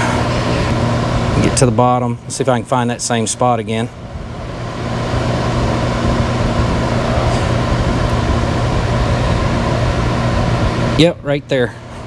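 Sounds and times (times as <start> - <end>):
electric motor whirring hum: 0.0 - 12.0.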